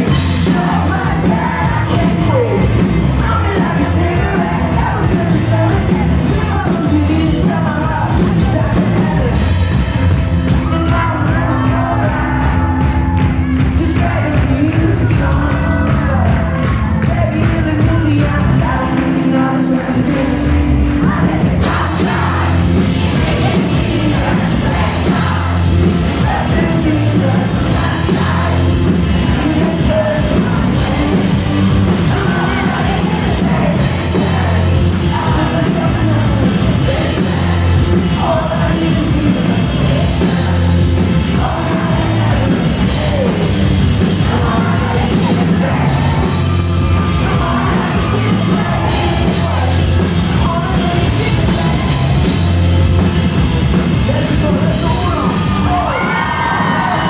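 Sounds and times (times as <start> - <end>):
person singing: 0.0 - 9.6, 10.5 - 53.2
crowd yelling: 0.0 - 57.0
rock band playing live: 0.0 - 57.0.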